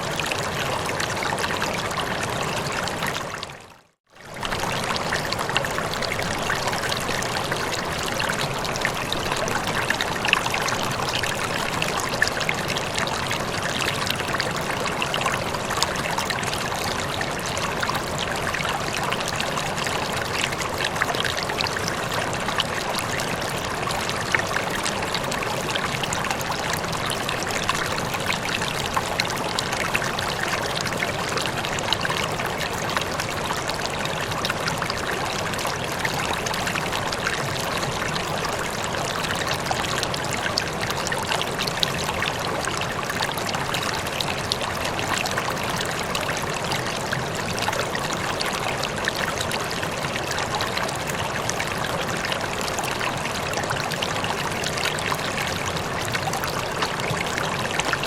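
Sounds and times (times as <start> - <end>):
water rushing and splashing: 0.0 - 58.0.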